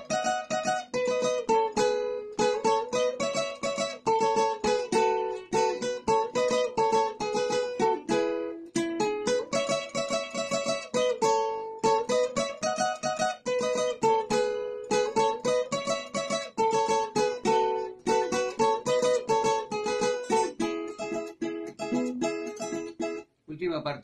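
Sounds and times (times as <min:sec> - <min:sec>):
fingerstyle acoustic guitar: 0:00.0 - 0:23.3.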